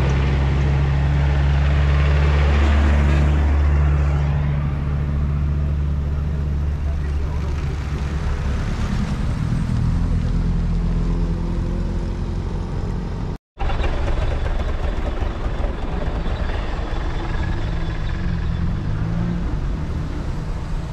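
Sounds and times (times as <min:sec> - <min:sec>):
car engines revving: 0:00.0 - 0:13.4, 0:14.0 - 0:20.9.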